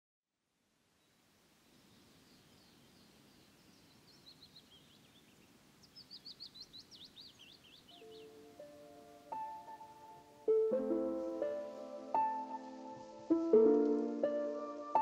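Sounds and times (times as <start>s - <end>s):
songbird chirping: 0.9s - 15.0s.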